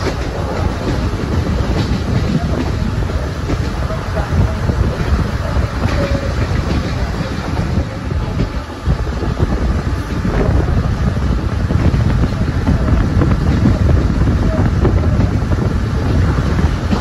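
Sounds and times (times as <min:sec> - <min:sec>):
train wheels rumbling on rail: 0:00.0 - 0:17.0
wind noise on microphone: 0:00.0 - 0:17.0.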